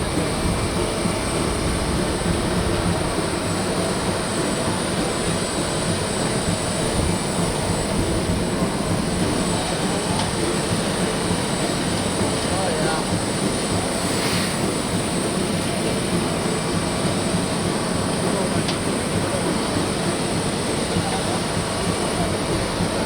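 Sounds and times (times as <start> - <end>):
jet cabin engine and air rumble: 0.0 - 23.0.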